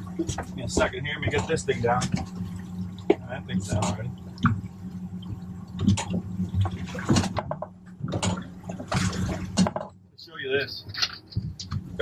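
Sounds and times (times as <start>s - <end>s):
steady low hum: 0.0s - 12.0s
water splashing and sloshing: 0.0s - 12.0s.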